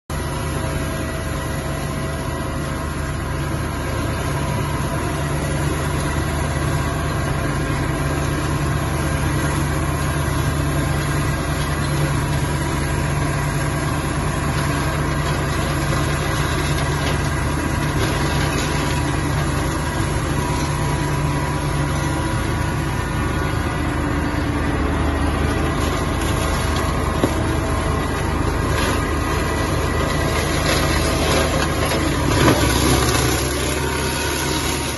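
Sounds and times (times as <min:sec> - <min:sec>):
mulcher shredding dry grass: 0:00.1 - 0:34.9
tractor engine running: 0:00.1 - 0:34.9.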